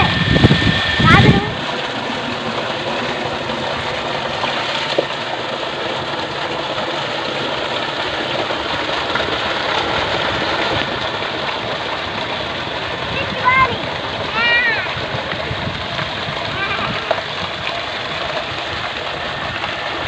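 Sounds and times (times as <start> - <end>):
water gushing into tank: 0.0 - 20.0.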